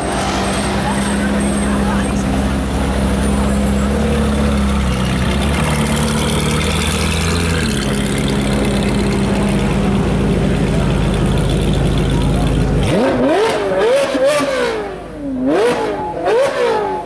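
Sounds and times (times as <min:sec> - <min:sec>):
sports car engine idling: 0:00.1 - 0:13.9.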